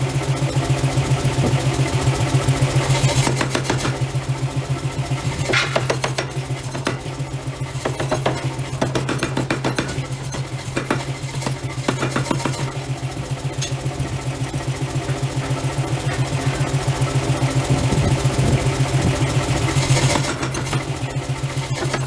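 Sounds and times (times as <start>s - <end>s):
forging machinery humming: 0.0s - 22.0s
rhythmic mechanical knocks: 0.1s - 22.0s.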